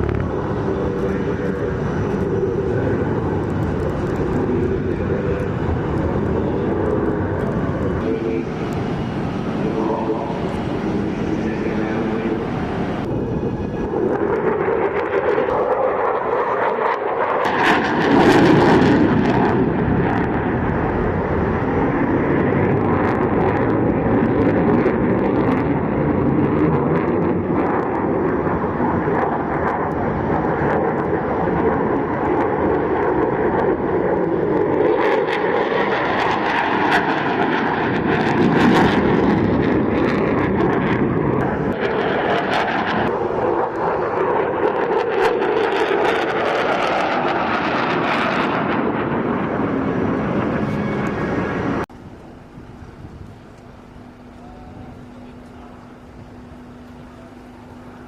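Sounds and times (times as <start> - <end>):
airplane flying by: 0.0 - 58.0.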